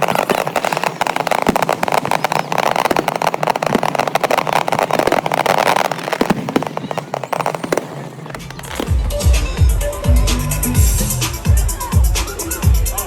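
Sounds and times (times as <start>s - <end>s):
fireworks bangs and pops: 0.0s - 12.2s.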